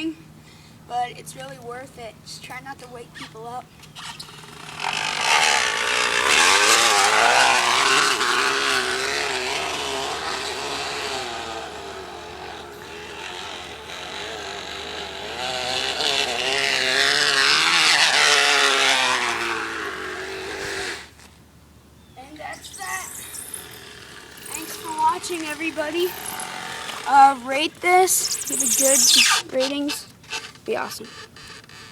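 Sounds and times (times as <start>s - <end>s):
can buzzing against bicycle wheel: 3.8s - 21.3s, 22.2s - 31.9s.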